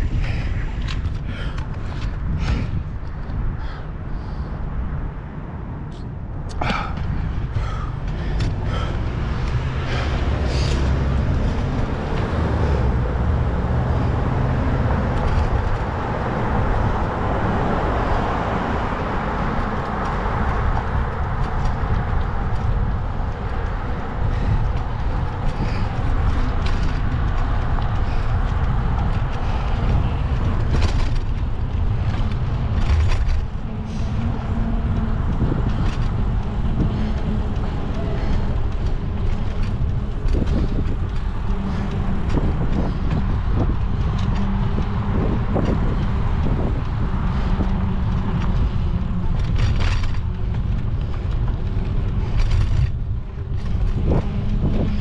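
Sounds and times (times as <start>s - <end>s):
road traffic: 0.0s - 55.0s
vehicle passing: 0.0s - 55.0s
wind rumble on microphone: 0.0s - 55.0s.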